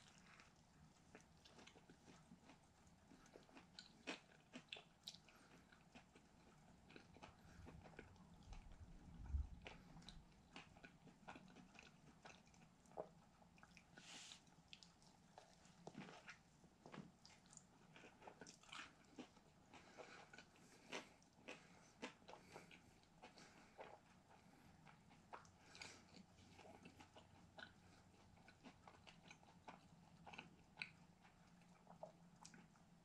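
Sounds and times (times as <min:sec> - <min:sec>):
faint chewing and crunching: 0:00.0 - 0:33.0.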